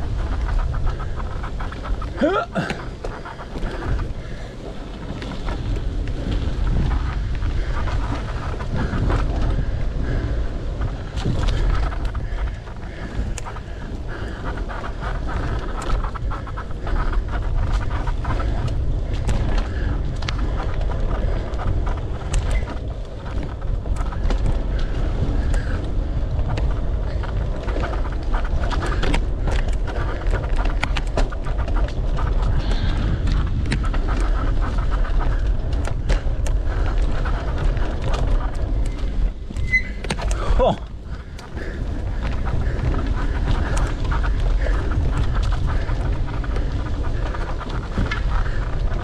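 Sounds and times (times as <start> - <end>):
bike clicks and rattles: 0.0 - 49.0
bike tyre noise on dirt: 0.0 - 49.0
wind buffeting microphone: 0.0 - 49.0.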